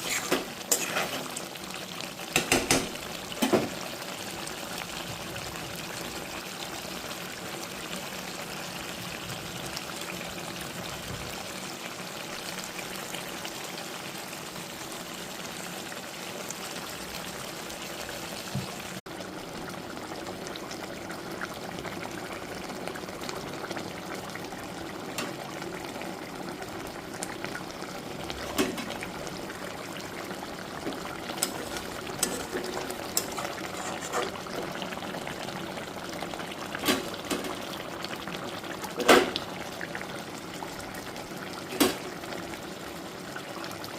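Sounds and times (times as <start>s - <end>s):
gravy bubbling in a pan: 0.0s - 43.9s.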